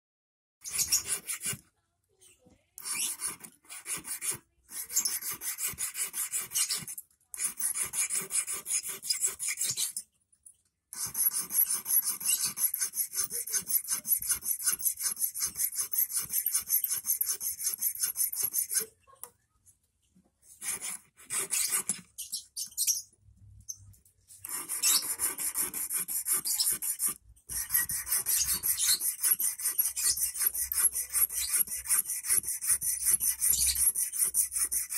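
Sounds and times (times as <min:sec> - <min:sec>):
hand file rasping on steel wire: 0:00.6 - 0:01.6, 0:02.8 - 0:10.0, 0:11.0 - 0:19.0, 0:20.5 - 0:22.1, 0:24.4 - 0:34.9.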